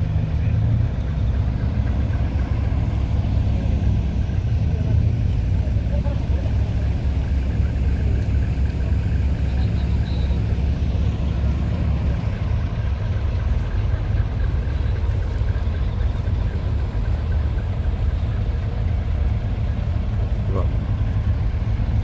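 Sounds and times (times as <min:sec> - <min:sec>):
diesel engines idling: 0:00.0 - 0:22.0.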